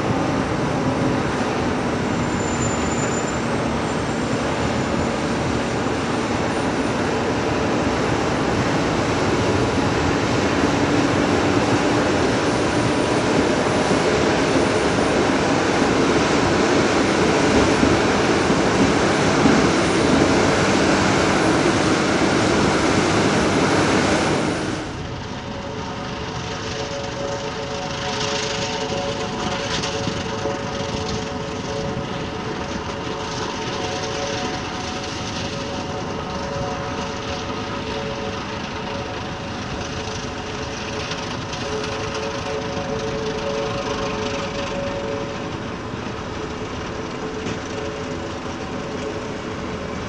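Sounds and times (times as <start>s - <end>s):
construction machinery din: 0.0s - 50.0s.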